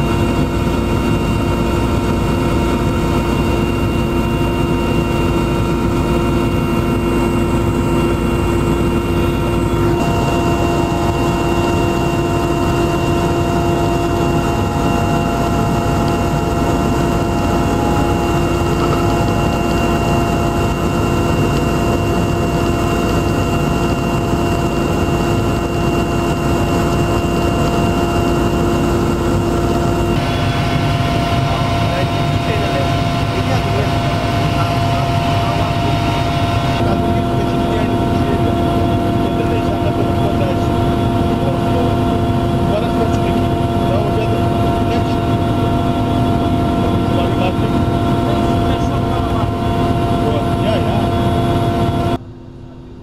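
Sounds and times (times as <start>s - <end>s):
aircraft engine drone in cabin: 0.0s - 53.0s.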